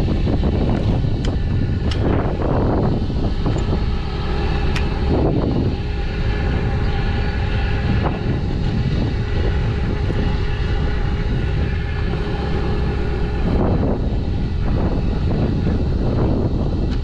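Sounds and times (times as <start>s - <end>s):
engine running with whine: 0.0s - 17.0s.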